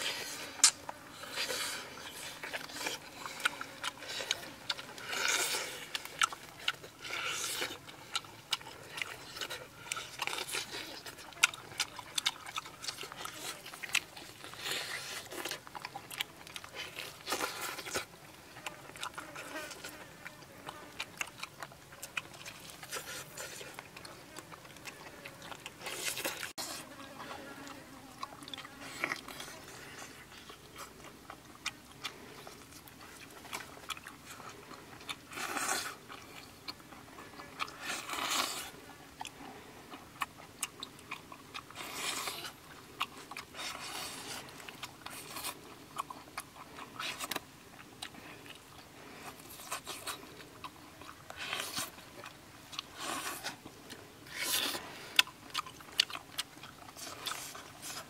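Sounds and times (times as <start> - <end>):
person biting and crunching: 0.0 - 27.4, 28.2 - 37.0, 37.6 - 58.0
chewing clicks: 0.0 - 58.0.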